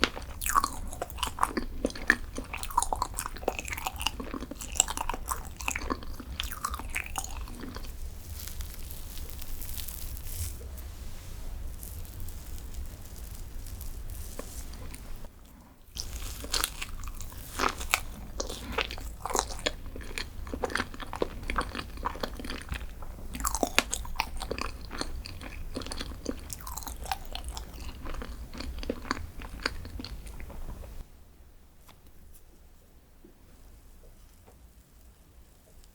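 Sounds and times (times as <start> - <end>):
crunchy chewing: 0.0 - 10.8, 11.4 - 31.1.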